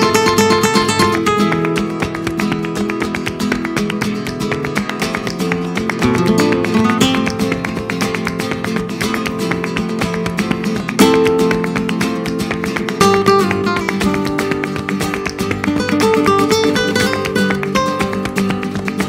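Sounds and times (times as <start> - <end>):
flamenco acoustic guitar: 0.0 - 19.0.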